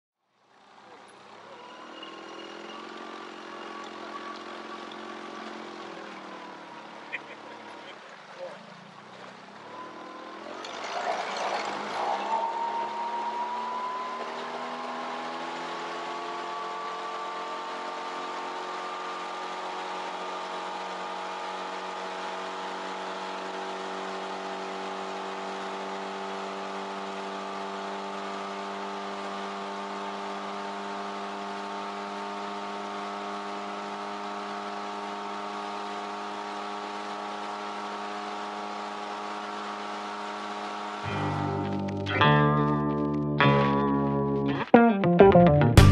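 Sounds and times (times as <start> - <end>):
outboard motor speeding up: 0.4 - 44.7.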